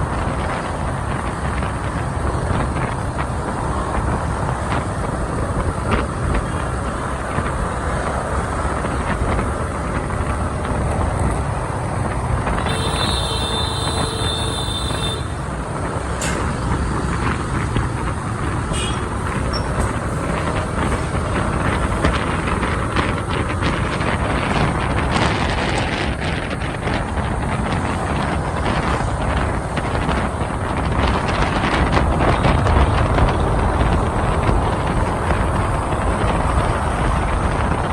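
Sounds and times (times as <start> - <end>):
city traffic engines: 0.0 - 37.9
motorbike road and wind noise: 0.0 - 37.9.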